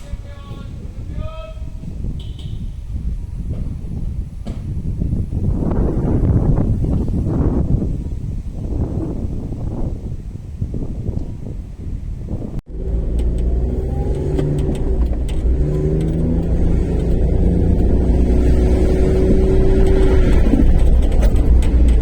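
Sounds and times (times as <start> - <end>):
truck engine rumbling: 0.0 - 10.1, 11.9 - 22.0.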